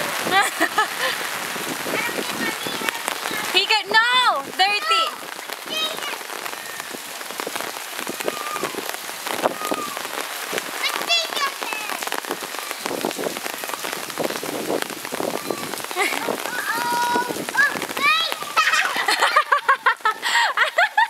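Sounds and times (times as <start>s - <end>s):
rain shower hissing: 0.0s - 21.0s
raindrops tapping on surfaces: 0.0s - 21.0s.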